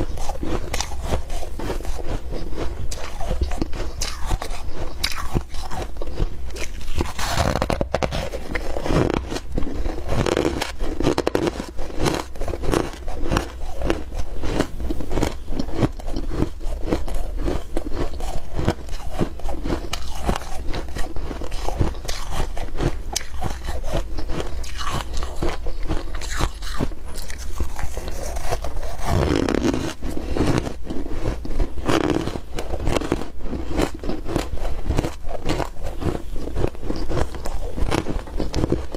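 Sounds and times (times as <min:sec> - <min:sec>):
ice being crunched by biting: 0:00.0 - 0:38.9.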